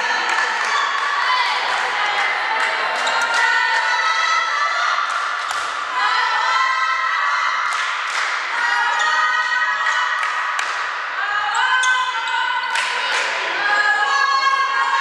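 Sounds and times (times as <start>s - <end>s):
young women shouting and cheering: 0.0s - 10.6s, 11.2s - 15.0s.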